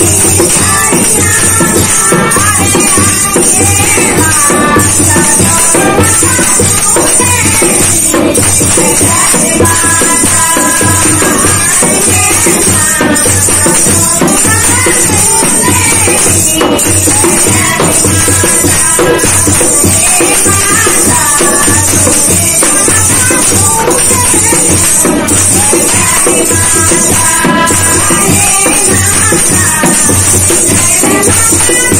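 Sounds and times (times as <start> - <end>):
dholak drum beat: 0.0 - 31.9
jingling hand percussion: 0.0 - 31.9
women singing: 0.0 - 31.9.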